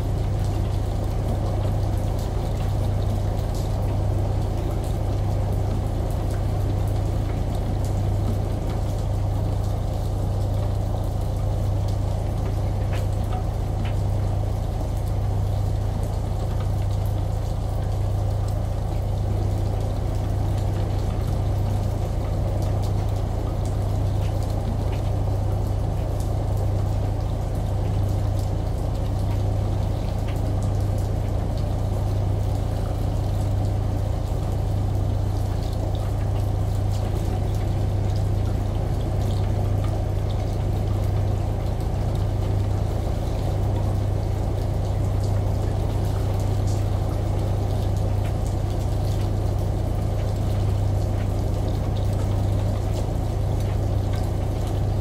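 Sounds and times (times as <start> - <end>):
rain ticking: 0.0 - 55.0
shower running: 0.0 - 55.0
washing machine droning: 0.0 - 55.0.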